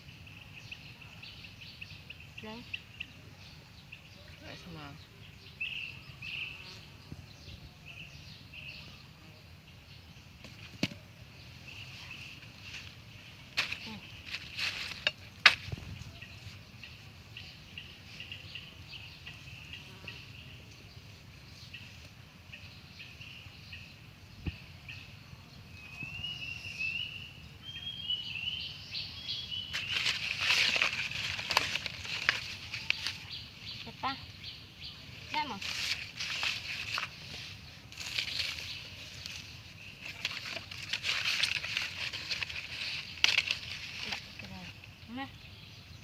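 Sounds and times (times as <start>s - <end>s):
birds chirping: 0.0s - 46.0s
outdoor background noise: 0.0s - 46.0s.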